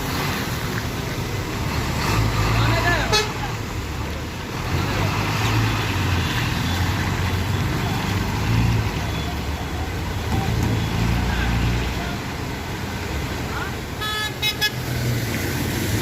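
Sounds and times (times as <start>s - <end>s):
road and traffic noise: 0.0s - 16.0s.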